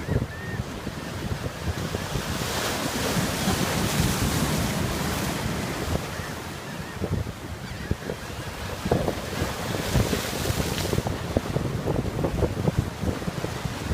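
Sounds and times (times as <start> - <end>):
ocean surf breaking: 0.0 - 7.8, 8.4 - 13.9
wind buffeting microphone: 0.0 - 13.9.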